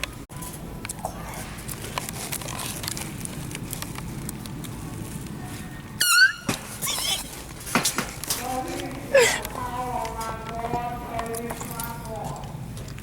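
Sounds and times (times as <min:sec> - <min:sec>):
store background noise: 0:00.0 - 0:13.0.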